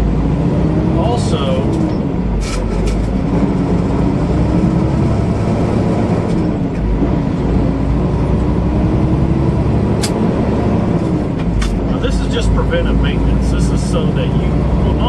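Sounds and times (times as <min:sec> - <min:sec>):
road noise: 0:00.0 - 0:15.0
truck engine drone: 0:00.0 - 0:15.0.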